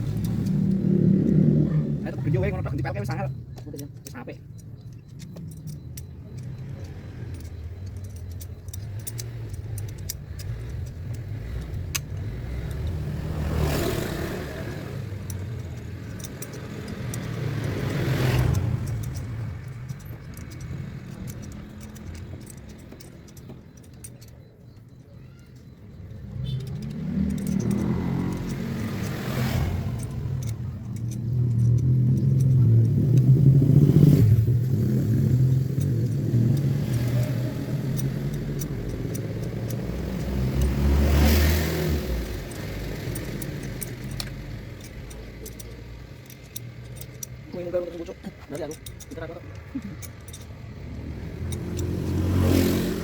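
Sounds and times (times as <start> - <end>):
light metallic clicks: 0.0 - 53.0
vehicle engine rumbling: 0.0 - 53.0.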